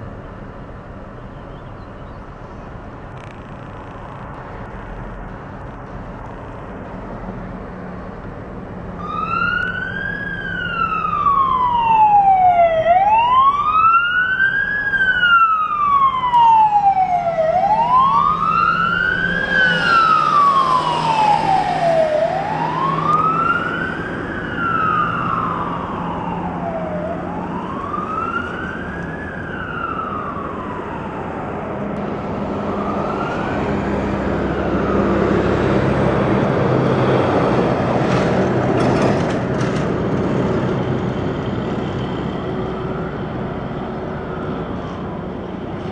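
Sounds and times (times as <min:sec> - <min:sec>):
traffic noise: 0:00.0 - 0:45.9
fire truck siren wailing: 0:08.7 - 0:45.9.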